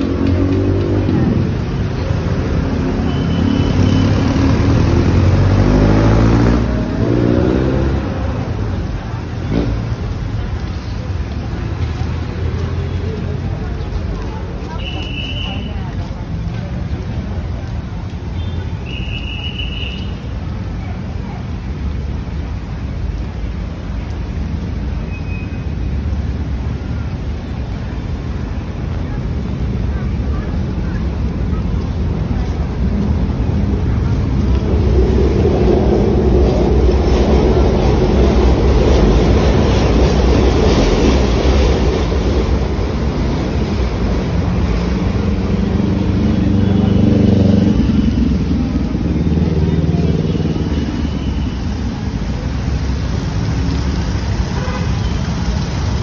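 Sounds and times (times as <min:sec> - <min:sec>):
vehicles accelerating past: 0:00.0 - 0:14.8, 0:25.6 - 0:56.0
traffic rumble: 0:00.0 - 0:56.0.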